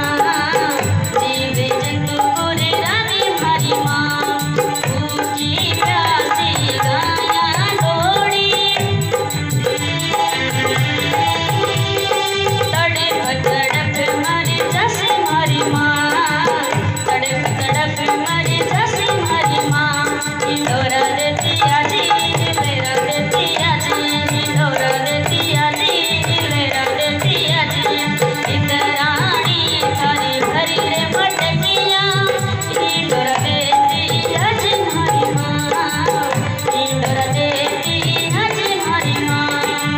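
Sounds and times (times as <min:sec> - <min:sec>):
rattling percussion: 0:00.0 - 0:39.9
woman singing: 0:00.0 - 0:39.9.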